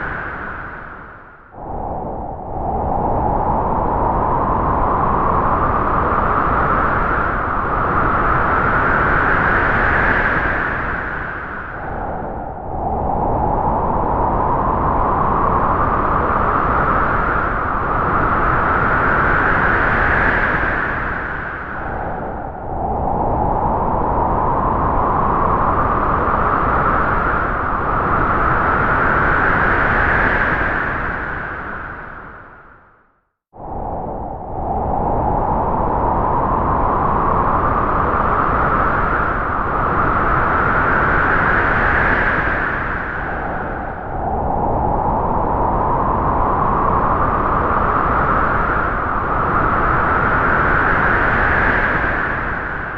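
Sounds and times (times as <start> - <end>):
strong wind howling through trees: 0.0 - 52.9.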